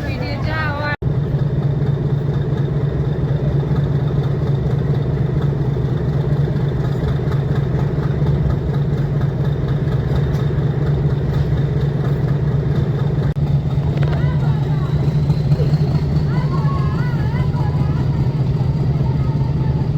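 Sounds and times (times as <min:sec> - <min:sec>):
diesel locomotive engine humming: 0:00.0 - 0:19.9.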